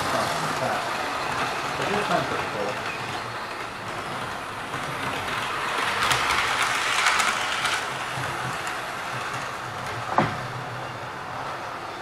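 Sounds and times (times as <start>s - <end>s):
model train wheels rattling: 0.0s - 10.6s.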